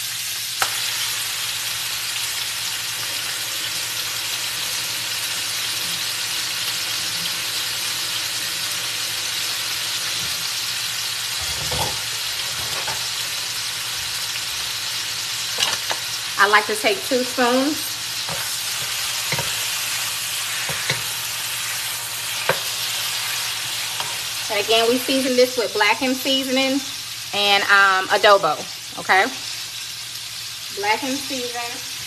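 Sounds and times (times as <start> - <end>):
meat sizzling in hot oil: 0.0 - 32.0.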